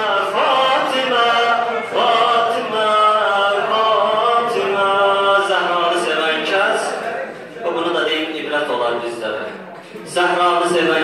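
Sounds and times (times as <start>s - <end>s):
man chanting a hymn: 0.0s - 11.0s.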